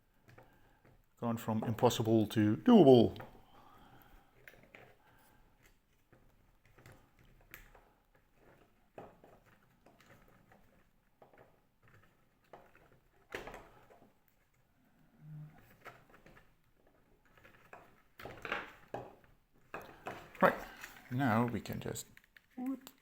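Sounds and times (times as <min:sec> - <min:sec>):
plastic parts clicking and knocking: 0:00.1 - 0:02.2, 0:03.0 - 0:14.6, 0:15.6 - 0:23.0.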